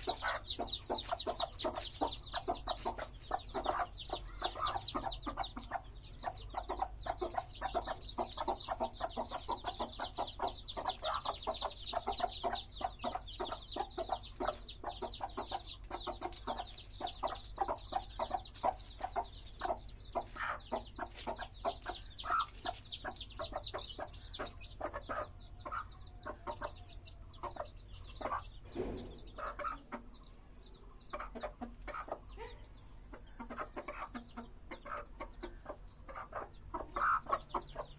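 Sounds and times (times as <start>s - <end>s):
chicks peeping: 0.0s - 37.9s
hen clucking: 0.0s - 37.9s.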